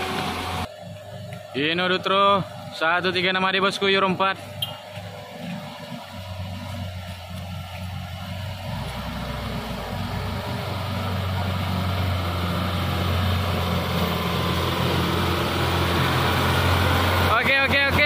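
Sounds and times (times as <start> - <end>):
diesel truck engine climbing: 0.0 - 18.0.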